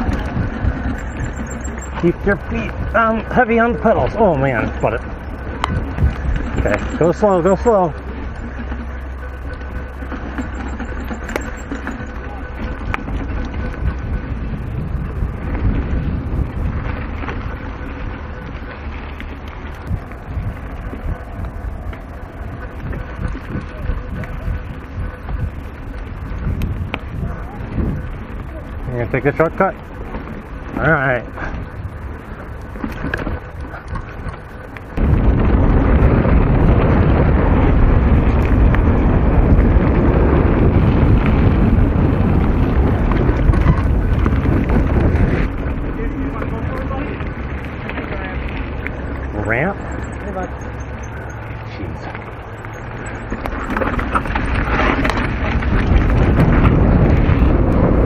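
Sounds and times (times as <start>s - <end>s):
bike clicks and rattles: 0.0s - 58.0s
wind buffeting microphone: 0.0s - 58.0s.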